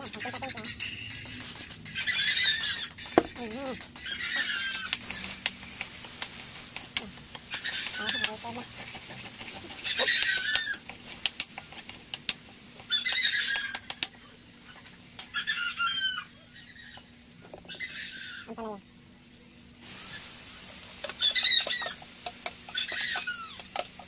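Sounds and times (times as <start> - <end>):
food sizzling: 0.0 - 24.0.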